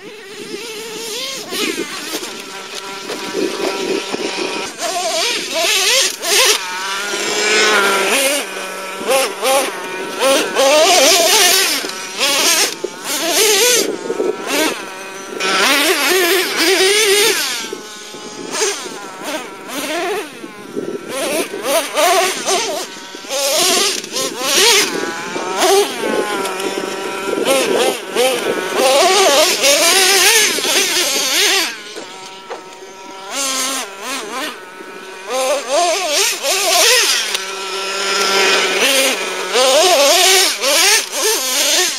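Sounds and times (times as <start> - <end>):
rc truck engine revving: 0.0 - 41.9.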